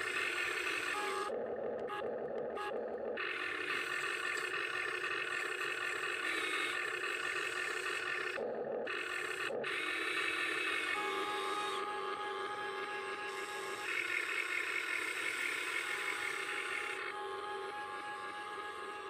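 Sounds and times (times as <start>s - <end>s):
electric motors and gearboxes whining: 0.0s - 19.0s.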